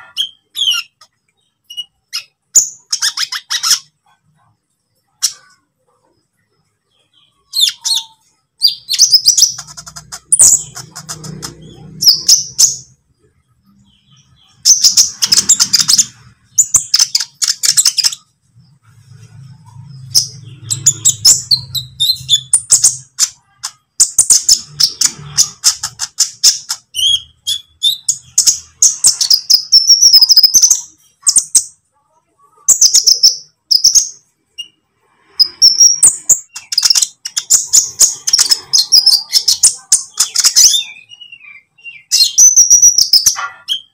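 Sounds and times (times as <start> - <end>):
bird chirping and trilling: 0.0 - 43.9.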